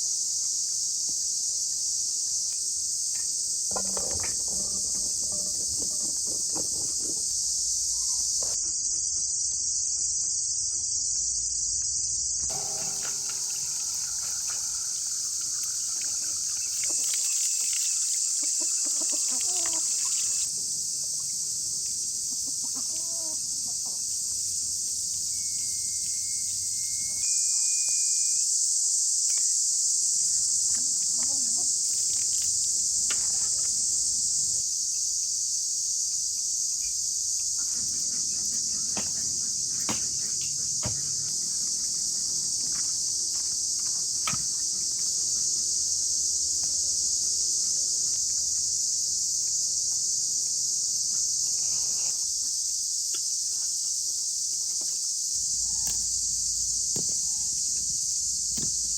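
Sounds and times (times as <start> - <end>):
insects chirping: 0.0 - 58.9.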